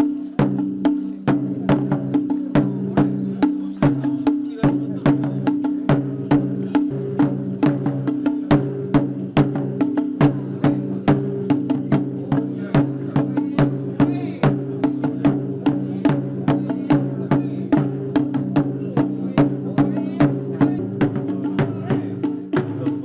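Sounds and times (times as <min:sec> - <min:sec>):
sharp percussion strikes: 0:00.0 - 0:23.0.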